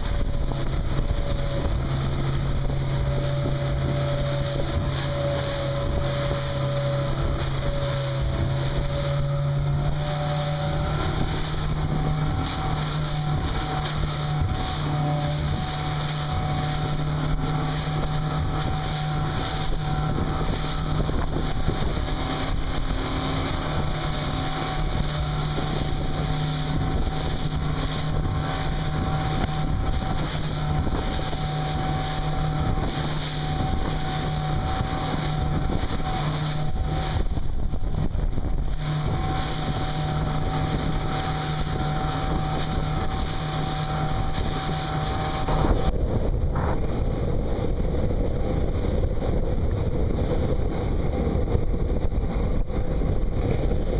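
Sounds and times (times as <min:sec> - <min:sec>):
outboard motor hum: 0:00.0 - 0:53.9
water rushing along hull: 0:00.0 - 0:53.9
wind noise on microphone: 0:00.0 - 0:53.9.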